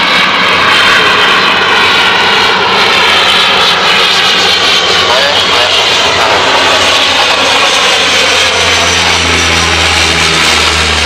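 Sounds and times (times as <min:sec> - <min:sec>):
low propeller hum: 0:00.0 - 0:11.0
turboprop engines droning: 0:00.0 - 0:11.0.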